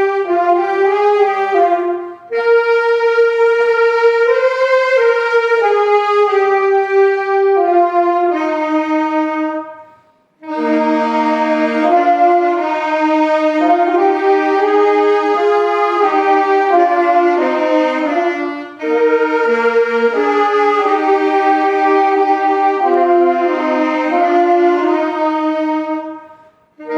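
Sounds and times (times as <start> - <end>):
saxophone-like wind instrument melody: 0.0 - 26.9.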